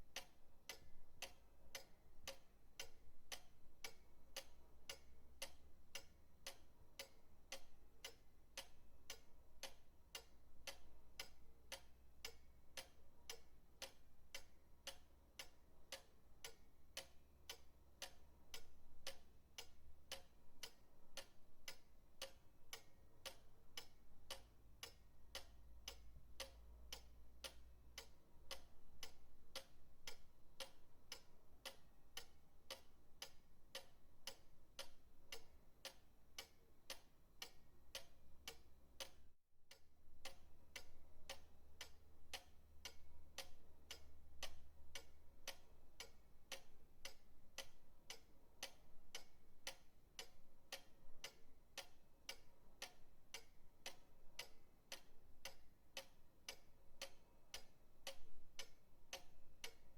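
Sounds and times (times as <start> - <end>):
pendulum clock ticking: 0.0 - 59.9.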